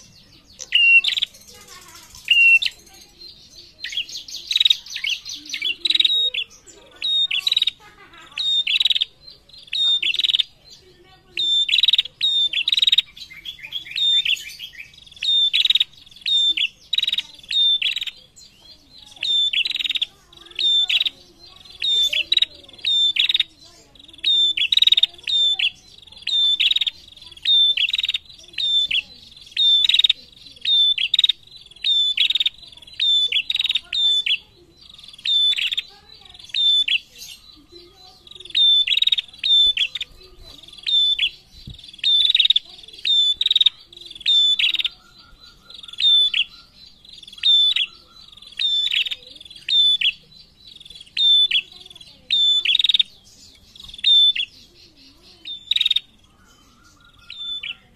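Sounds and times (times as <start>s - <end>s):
bird chirping with dry rattle: 0.0s - 57.9s.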